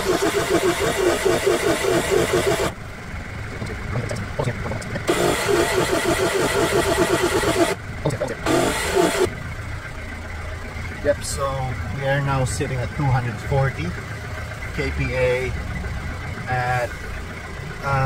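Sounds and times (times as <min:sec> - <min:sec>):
tire compressor pulsing: 0:00.0 - 0:18.0.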